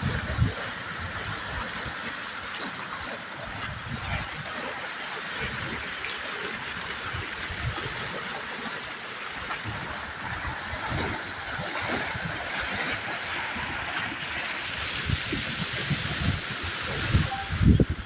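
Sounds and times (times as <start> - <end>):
water flowing in a stream: 0.0 - 18.0.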